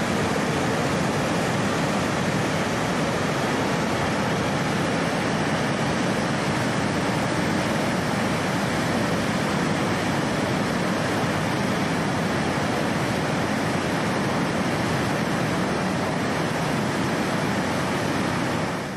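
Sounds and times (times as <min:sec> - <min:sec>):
water rushing over a weir: 0:00.0 - 0:18.9.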